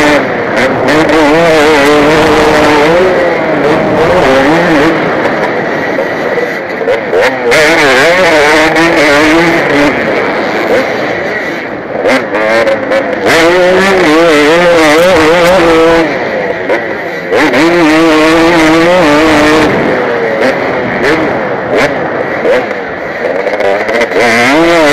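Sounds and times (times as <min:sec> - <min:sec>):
motocross bike engine revving: 0:00.0 - 0:24.9.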